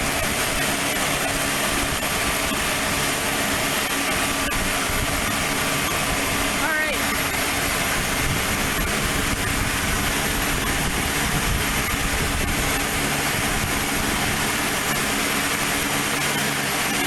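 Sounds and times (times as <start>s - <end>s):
airplane engine humming: 0.0s - 17.0s.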